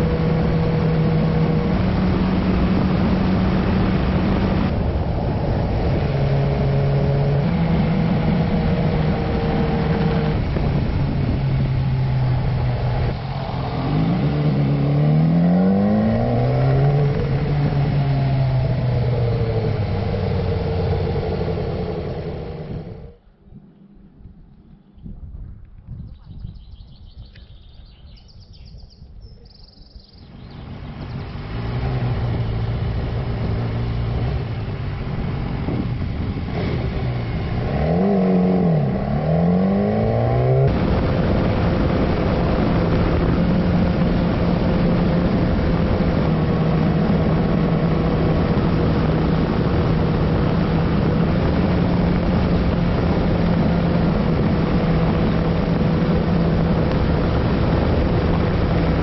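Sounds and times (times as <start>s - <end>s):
motorcycle engine: 0.0s - 24.9s, 30.3s - 59.0s
wind and road noise: 0.0s - 59.0s.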